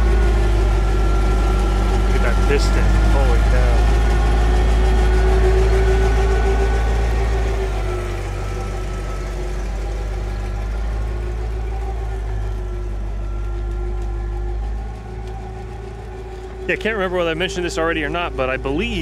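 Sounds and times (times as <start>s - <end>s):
forklift engine rumbling: 0.0s - 19.0s.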